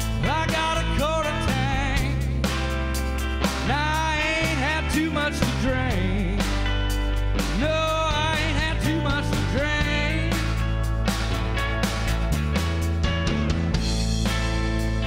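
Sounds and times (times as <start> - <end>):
bass: 0.0 - 15.0
drums: 0.0 - 15.0.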